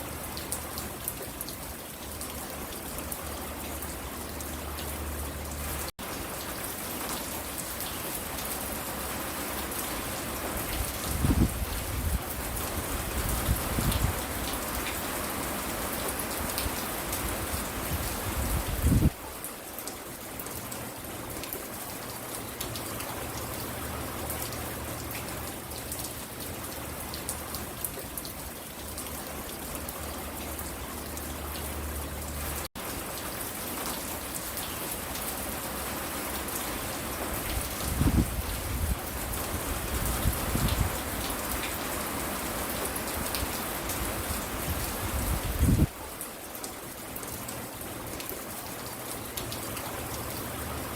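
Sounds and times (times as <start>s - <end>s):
rain pattering on surfaces: 0.0s - 50.9s.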